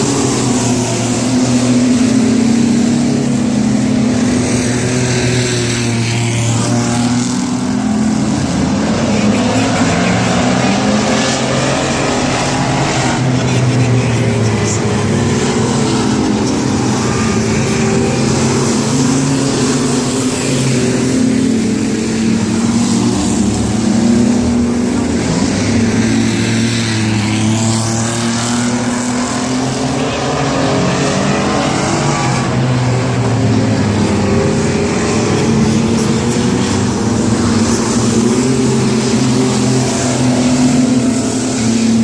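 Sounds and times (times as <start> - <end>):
racing truck engines: 0.0 - 42.0.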